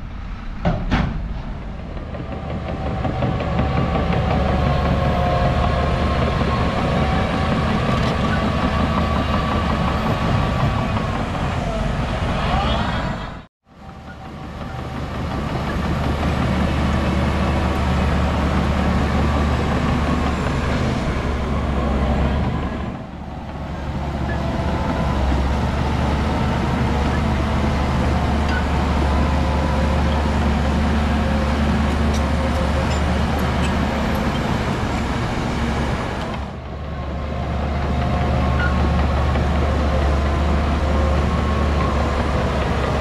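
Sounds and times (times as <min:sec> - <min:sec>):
heavy machinery diesel engine droning: 0:00.0 - 0:43.0.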